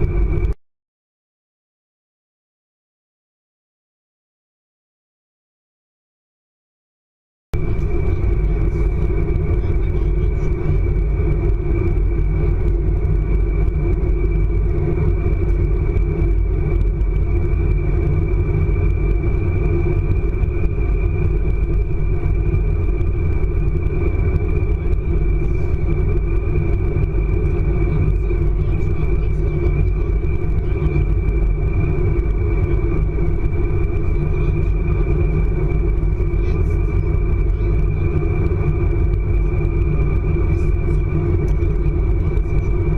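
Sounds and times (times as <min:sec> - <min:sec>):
train rumble inside carriage: 0:00.0 - 0:00.6, 0:07.6 - 0:42.9
thin high whine: 0:07.6 - 0:42.9.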